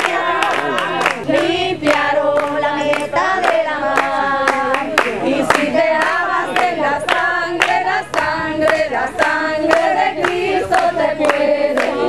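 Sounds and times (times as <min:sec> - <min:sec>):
congregation singing a hymn: 0:00.0 - 0:12.0
hand clapping: 0:00.0 - 0:12.0.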